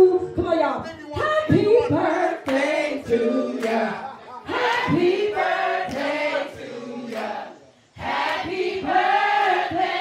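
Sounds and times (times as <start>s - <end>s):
group singing rowdily: 1.4s - 10.0s.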